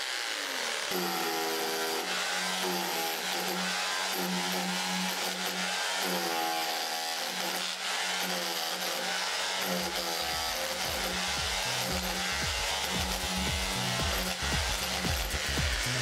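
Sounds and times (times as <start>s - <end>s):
rotary hammer chiselling concrete: 0.0s - 16.0s.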